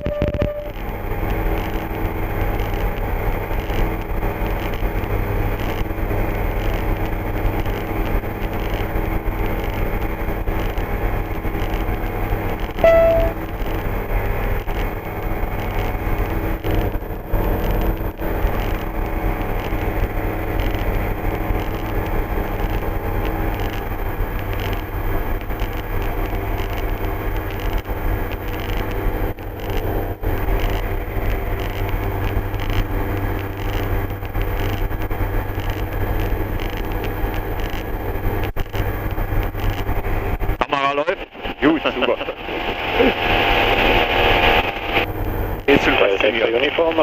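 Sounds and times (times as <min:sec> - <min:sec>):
aircraft engine and propeller drone: 0:00.8 - 0:47.0.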